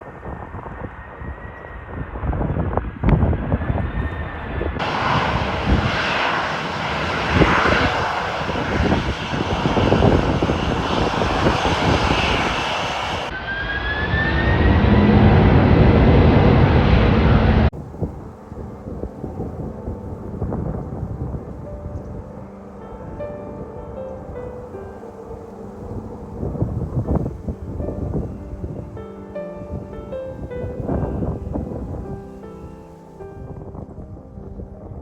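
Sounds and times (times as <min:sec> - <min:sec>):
wind rumble on microphone: 0:00.0 - 0:35.0
jet engines whining: 0:00.1 - 0:33.2.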